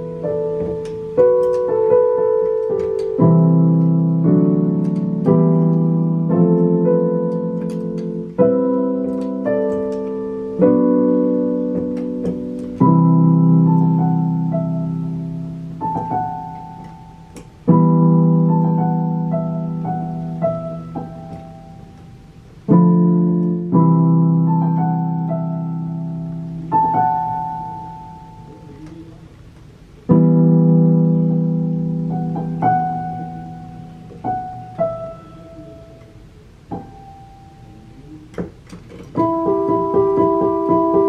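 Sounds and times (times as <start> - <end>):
electronic keyboard piano chords: 0.0 - 41.0.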